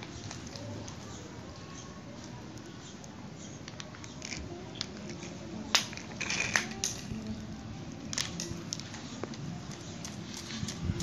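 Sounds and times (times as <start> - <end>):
plastic toys clicking on tile floor: 0.0 - 11.0.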